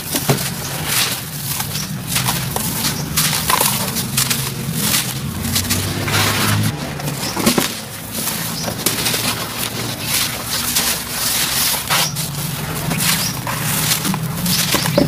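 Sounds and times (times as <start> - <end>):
hands crumbling gritty block: 0.0 - 15.0.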